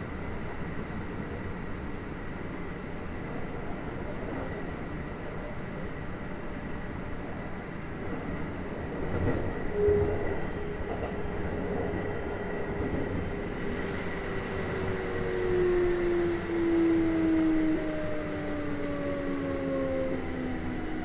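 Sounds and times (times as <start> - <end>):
wheel and rail rumble: 0.0 - 21.0.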